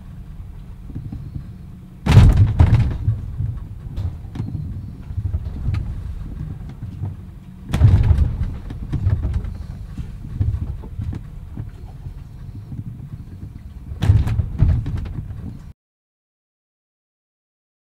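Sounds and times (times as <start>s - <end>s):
hull shuddering and jolting: 0.0s - 15.7s
constant low rumble: 0.0s - 15.8s
heavy thuds on hull: 0.8s - 15.7s.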